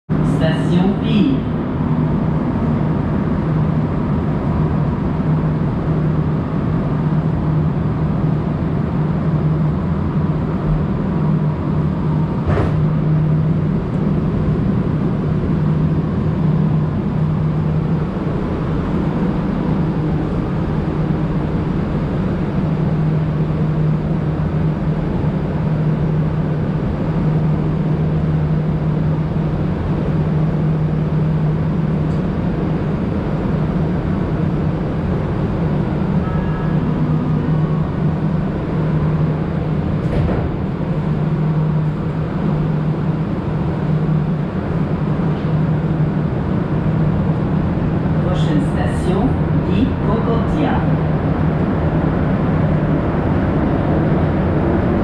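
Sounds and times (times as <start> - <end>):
subway car hum and rumble: 0.1 - 55.0.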